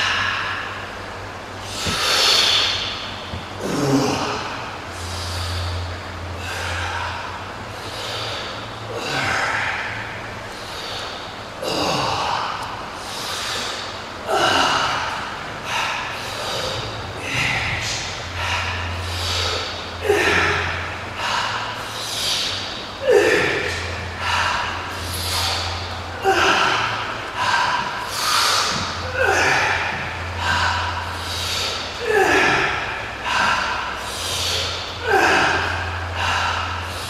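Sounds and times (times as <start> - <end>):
faint low hum: 0.0 - 37.0
man breathing heavily: 0.0 - 37.0.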